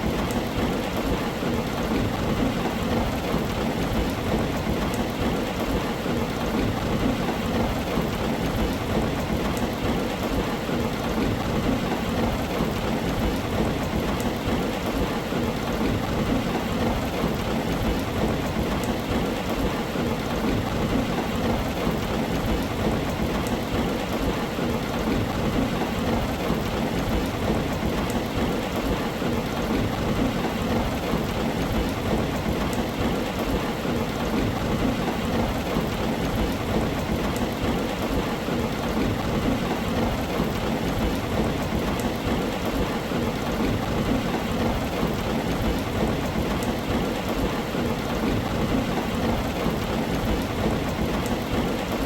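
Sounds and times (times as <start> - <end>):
heavy rain on a tin roof: 0.0 - 52.0.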